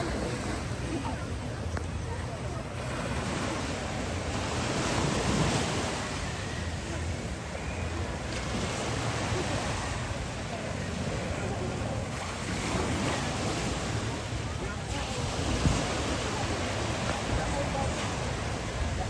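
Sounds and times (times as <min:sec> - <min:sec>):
ocean surf on beach: 0:00.0 - 0:19.0
wind rumbling on microphone: 0:00.0 - 0:19.0.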